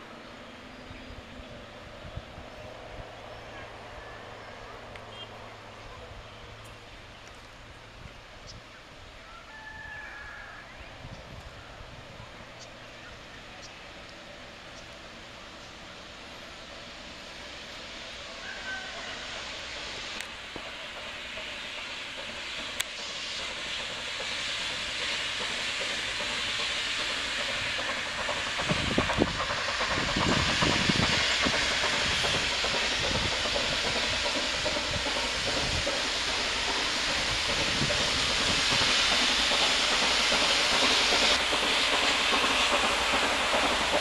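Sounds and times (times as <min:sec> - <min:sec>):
steam locomotive hissing: 0:00.0 - 0:44.0.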